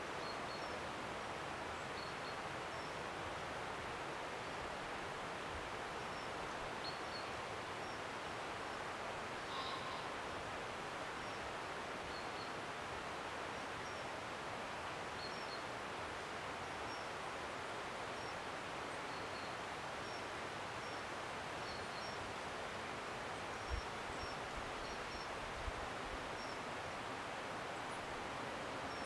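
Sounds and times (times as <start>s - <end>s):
woodland rustling hiss: 0.0s - 29.0s.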